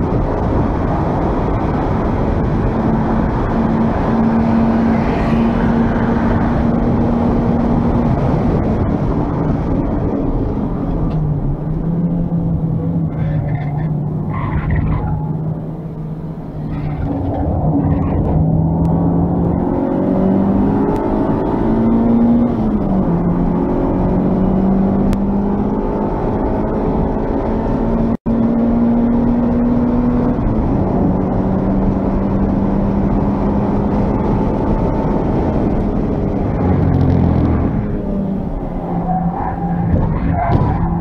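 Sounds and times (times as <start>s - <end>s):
car engine revving: 0.0s - 41.0s
road and tyre noise: 0.0s - 41.0s.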